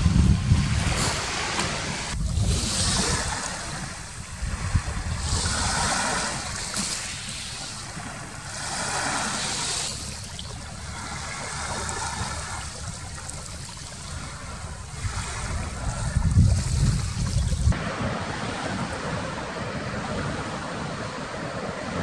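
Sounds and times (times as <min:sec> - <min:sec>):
steady low rumble: 0:00.0 - 0:20.8
sea waves breaking on beach: 0:00.0 - 0:22.0.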